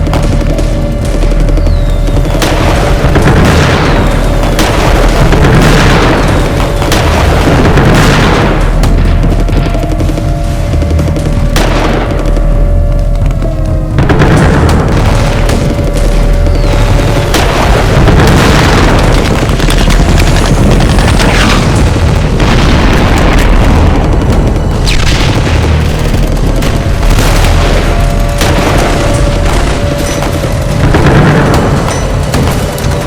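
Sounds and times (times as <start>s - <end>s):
gunfire: 0.0s - 13.3s, 14.0s - 33.0s
booming explosions: 0.0s - 33.0s
deep rumble: 0.0s - 33.0s.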